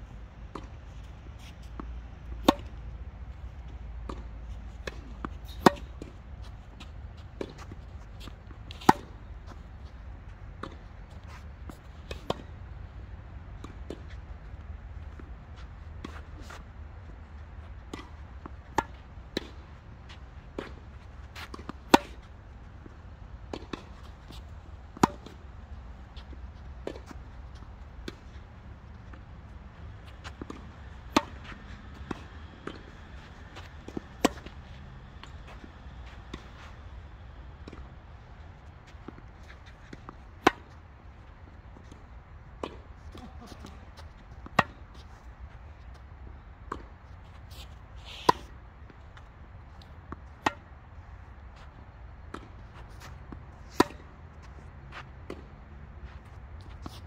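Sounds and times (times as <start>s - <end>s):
tennis balls struck by rackets: 1.6s - 3.0s, 3.8s - 10.8s, 17.9s - 46.0s, 46.6s - 57.0s.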